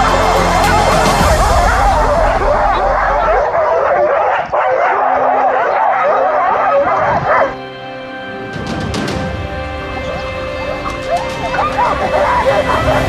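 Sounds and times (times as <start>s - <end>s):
dogs barking and yelping: 0.0s - 7.7s, 8.9s - 13.0s
background music: 0.0s - 13.0s.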